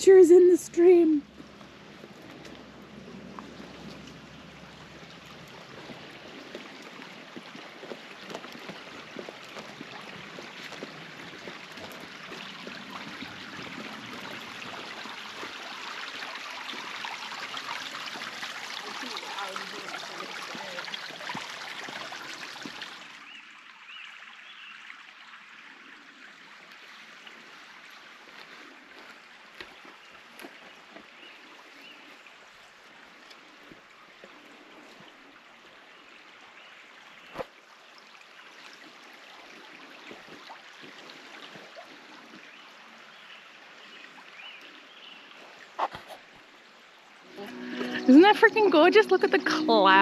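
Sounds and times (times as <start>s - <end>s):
forest creek running: 0.0s - 50.0s.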